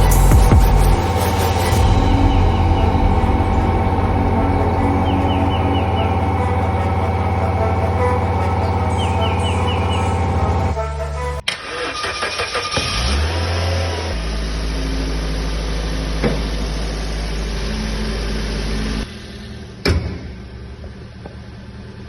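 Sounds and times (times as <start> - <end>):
car engine starting and idling: 0.0 - 10.8, 11.4 - 19.8.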